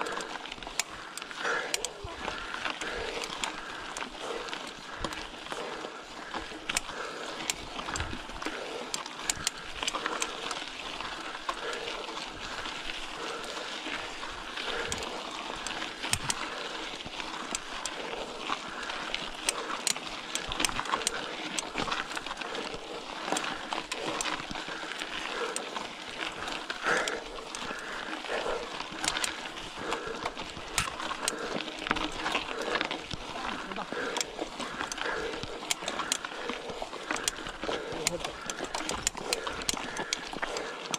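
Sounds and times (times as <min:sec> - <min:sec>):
bicycle rolling on rough surface: 0:00.0 - 0:40.9
bike clicks and rattles: 0:00.0 - 0:40.9.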